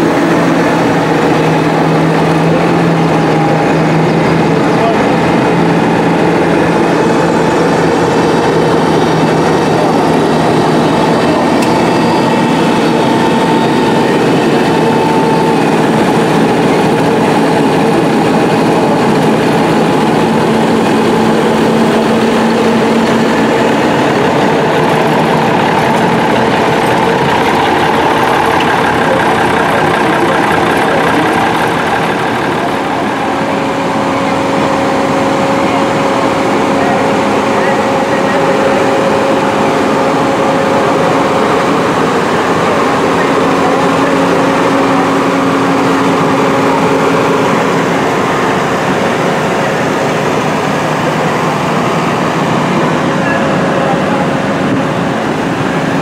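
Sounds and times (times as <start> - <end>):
tractor diesel engines droning: 0.0 - 56.0.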